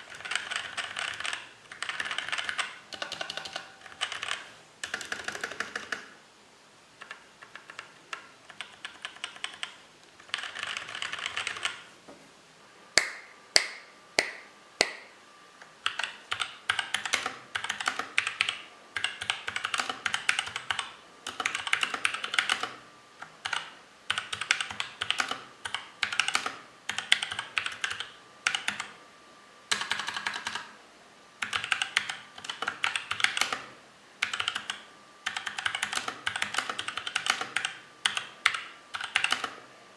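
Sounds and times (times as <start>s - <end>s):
mechanical keyboard typing: 0.0s - 6.2s, 7.0s - 11.9s, 15.8s - 29.0s, 29.7s - 30.7s, 31.4s - 39.7s.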